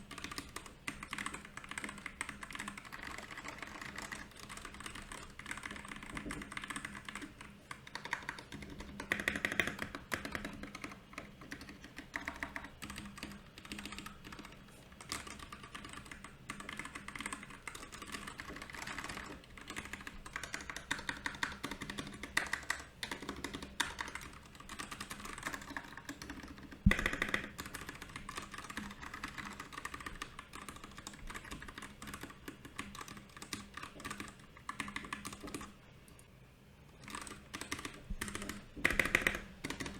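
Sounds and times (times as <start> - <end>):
mechanical keyboard typing: 0.0 - 35.8, 36.9 - 39.9.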